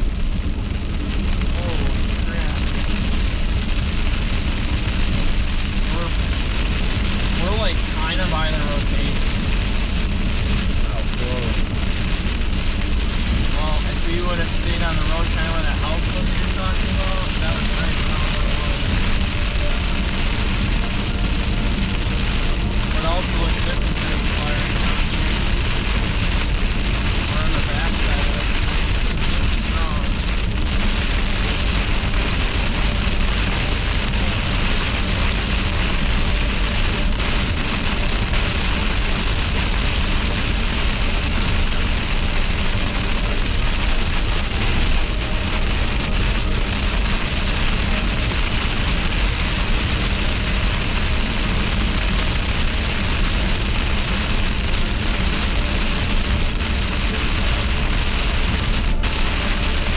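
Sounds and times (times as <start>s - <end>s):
heavy rain hitting a vehicle: 0.0s - 59.9s
road and engine rumble: 0.0s - 59.9s.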